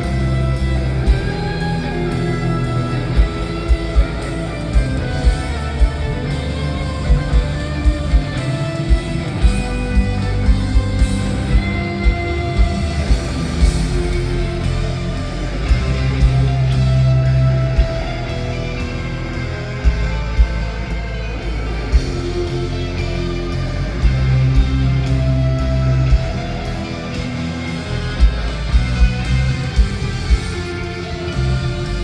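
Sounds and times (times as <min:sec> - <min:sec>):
live rock band instrumental: 0:00.0 - 0:32.0.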